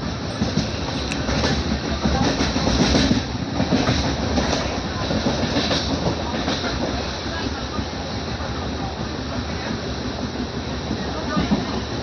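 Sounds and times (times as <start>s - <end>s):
train rumble: 0.0s - 12.0s
train wheels clattering: 0.0s - 12.0s.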